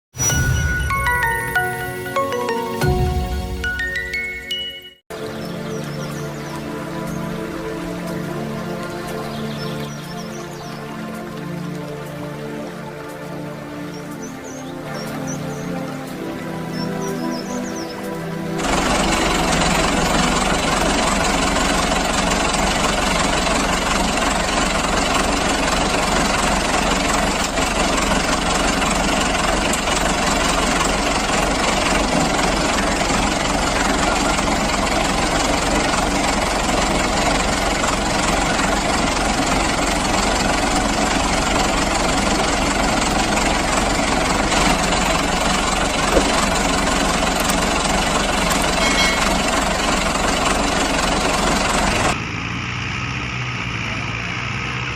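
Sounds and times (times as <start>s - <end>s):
heavy vehicle engine running: 5.2s - 54.9s.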